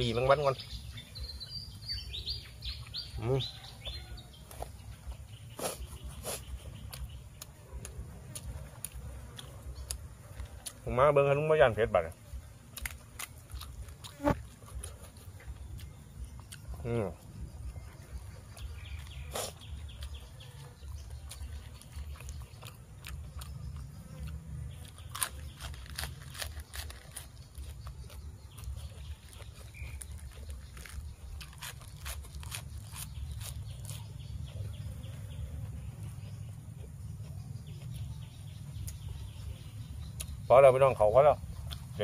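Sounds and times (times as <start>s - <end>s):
chewing crisp raw greens: 0.0s - 11.4s, 12.0s - 42.0s.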